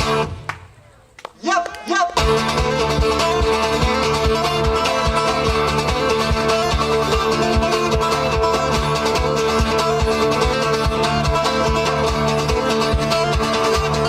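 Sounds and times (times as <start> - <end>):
steady low beat: 2.2 - 13.5
fingerpicked acoustic guitar: 2.2 - 14.0.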